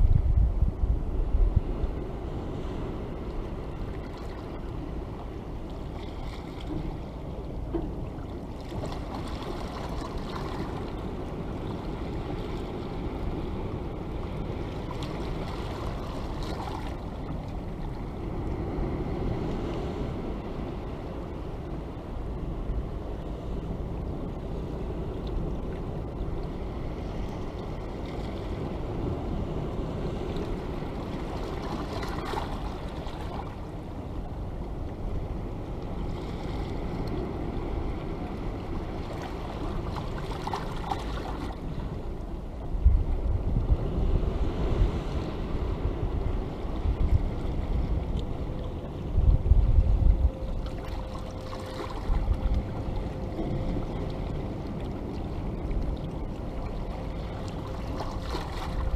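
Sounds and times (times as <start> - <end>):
waves splashing: 1.0 - 58.9.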